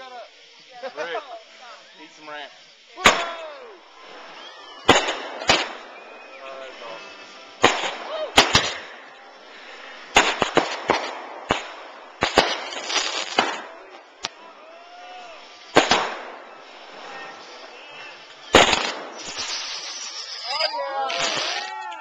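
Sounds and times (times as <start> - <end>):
fireworks bangs: 0.0 - 22.0
fireworks crackling and fizzing: 0.0 - 22.0.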